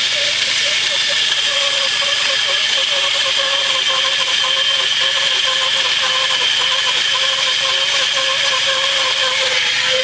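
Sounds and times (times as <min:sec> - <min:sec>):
lumber mill saw whining: 0:00.0 - 0:10.0.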